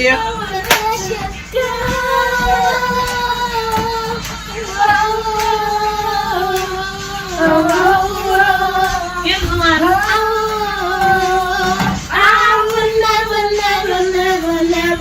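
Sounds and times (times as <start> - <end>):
high singing voice with sliding notes: 0.0 - 15.0.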